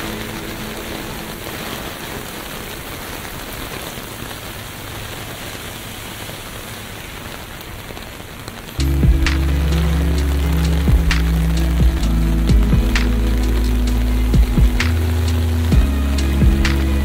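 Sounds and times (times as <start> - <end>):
rain on pavement: 0.0 - 17.0.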